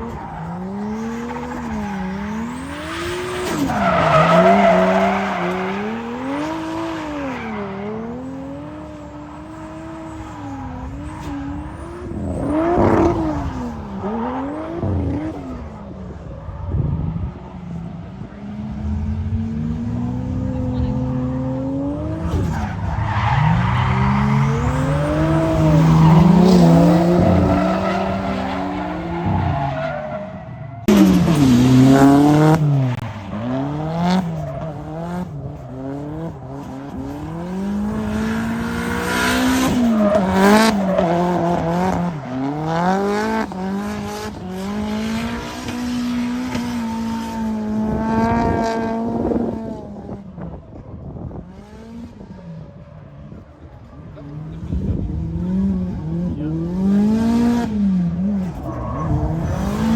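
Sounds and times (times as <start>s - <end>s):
tires squealing: 0.0s - 19.0s, 19.9s - 59.9s
car engines revving: 0.0s - 59.9s.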